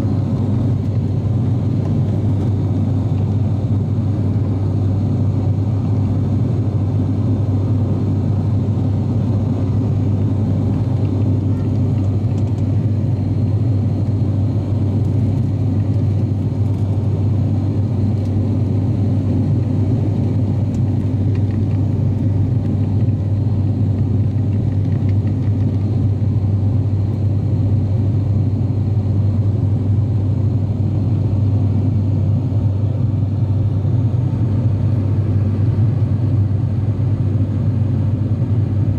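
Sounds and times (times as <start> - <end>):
propeller aircraft cabin drone: 0.0 - 38.9.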